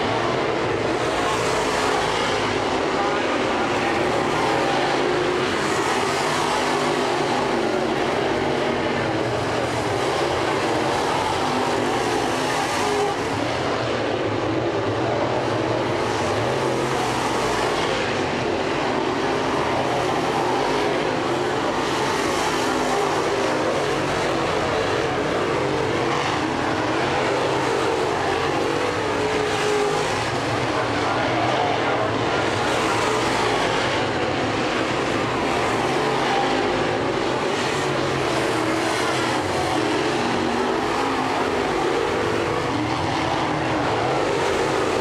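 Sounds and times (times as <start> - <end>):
race car engines droning: 0.0 - 45.0.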